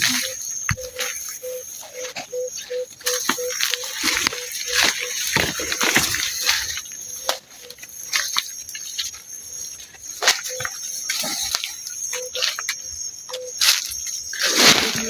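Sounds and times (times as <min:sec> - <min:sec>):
insects trilling: 0:00.0 - 0:15.0
rustles: 0:00.0 - 0:15.0.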